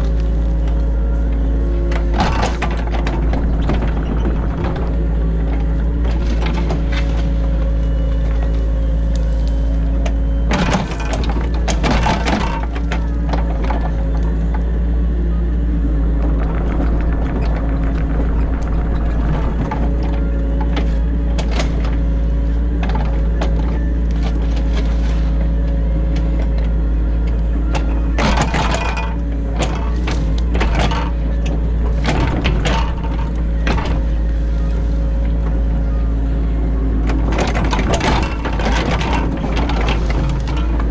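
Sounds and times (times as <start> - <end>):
excavator diesel engine: 0.0 - 40.9.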